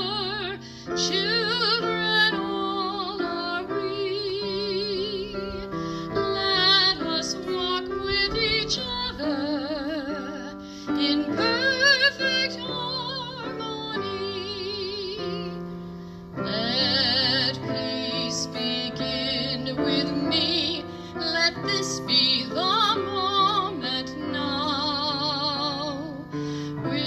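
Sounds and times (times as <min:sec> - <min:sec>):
woman singing a hymn: 0:00.0 - 0:27.0.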